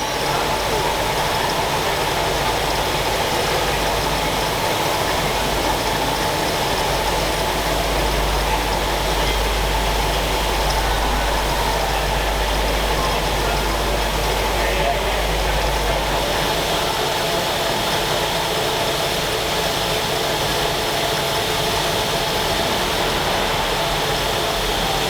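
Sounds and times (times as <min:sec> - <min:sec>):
train running noise: 0:00.0 - 0:25.0.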